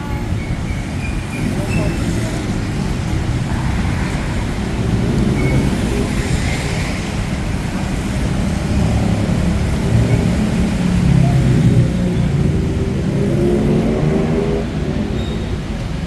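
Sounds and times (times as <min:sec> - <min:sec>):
car and bus engines rumbling: 0:00.0 - 0:16.0
rain: 0:00.0 - 0:16.0
tyres hissing on wet road: 0:00.5 - 0:16.0.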